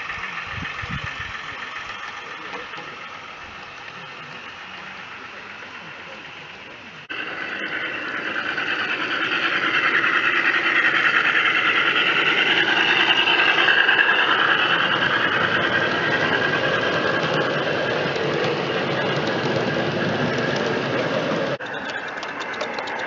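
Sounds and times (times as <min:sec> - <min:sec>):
model locomotive whine: 0:00.0 - 0:23.0
wheels rattling on rails: 0:00.0 - 0:23.0.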